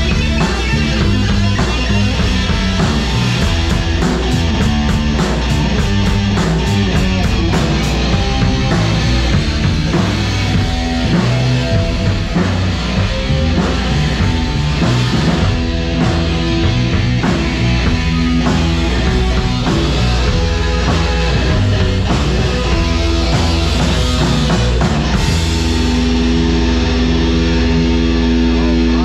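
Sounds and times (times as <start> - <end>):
drum kit beat: 0.0 - 28.9
electric guitar: 0.0 - 29.0.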